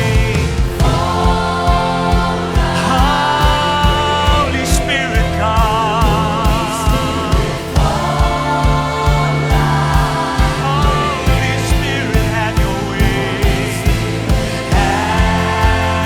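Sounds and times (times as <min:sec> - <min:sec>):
kick drum beat: 0:00.0 - 0:16.0
live worship band playing: 0:00.0 - 0:16.0.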